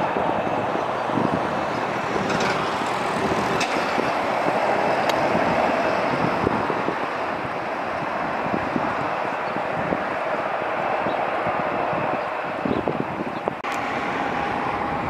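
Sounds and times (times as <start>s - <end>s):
jet airliner taxiing: 0.0s - 15.0s.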